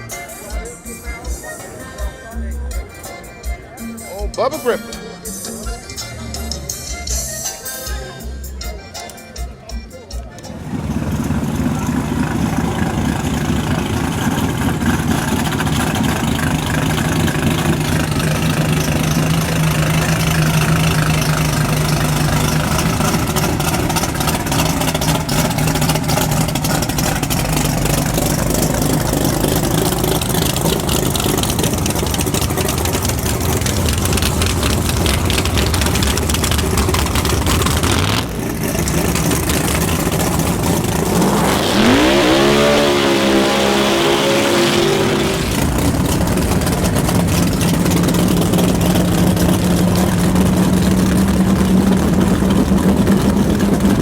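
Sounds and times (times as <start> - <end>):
race car engine idling: 8.5 - 54.0.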